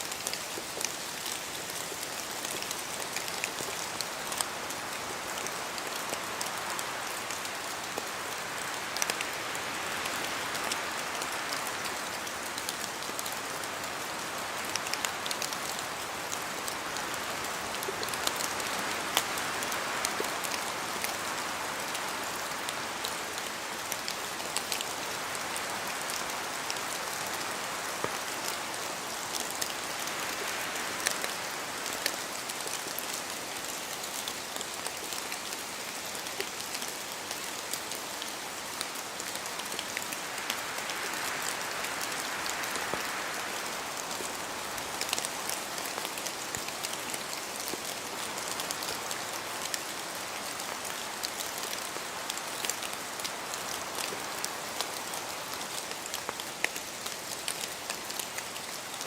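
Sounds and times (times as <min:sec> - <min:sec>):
rain hissing in a forest: 0:00.0 - 0:59.0.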